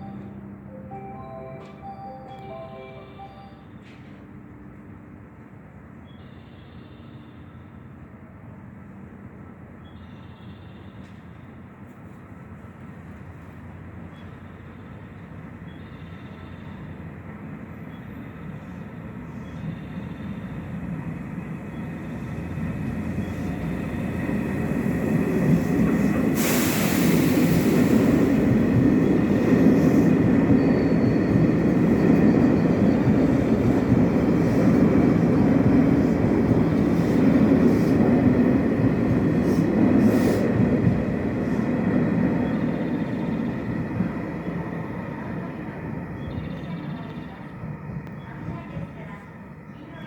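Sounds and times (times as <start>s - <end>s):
electric train passing at speed: 0.0s - 50.0s.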